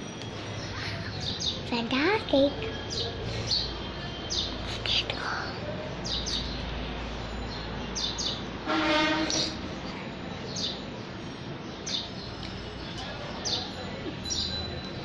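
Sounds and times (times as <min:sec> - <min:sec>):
small birds chirping: 0:00.2 - 0:08.6, 0:09.2 - 0:15.0.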